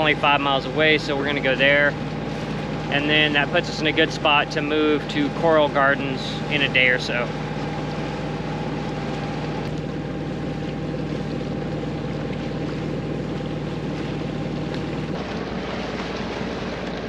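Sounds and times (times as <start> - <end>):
boat engine humming: 0.0 - 17.0
water rushing past hull: 0.0 - 17.0.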